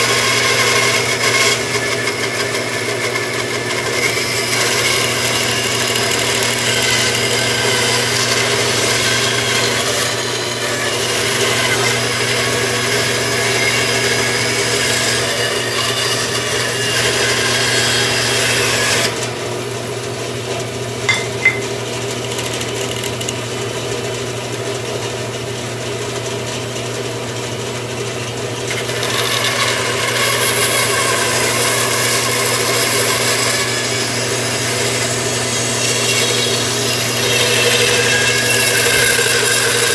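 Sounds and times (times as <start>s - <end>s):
saw blade cutting wood: 0.0s - 19.5s, 21.1s - 24.6s, 28.7s - 39.9s
bandsaw motor hum: 0.0s - 26.5s, 28.6s - 39.9s.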